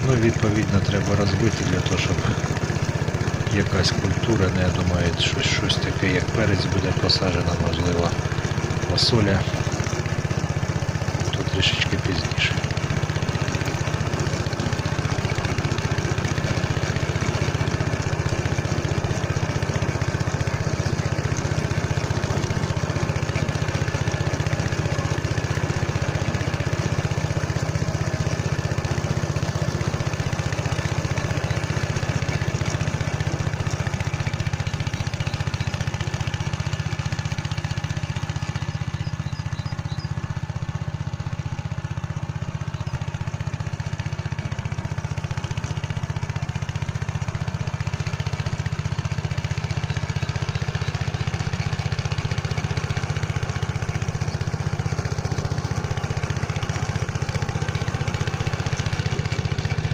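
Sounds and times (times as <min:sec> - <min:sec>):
rotary tiller working soil: 0:00.0 - 0:59.9
tractor engine running under load: 0:00.0 - 0:59.9.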